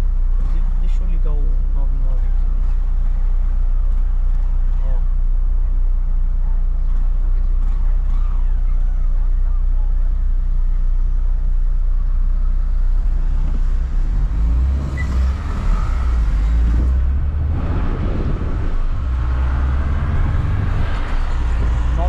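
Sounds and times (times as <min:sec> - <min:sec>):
car engine accelerating: 0:00.0 - 0:22.0
road noise inside car: 0:00.0 - 0:22.0.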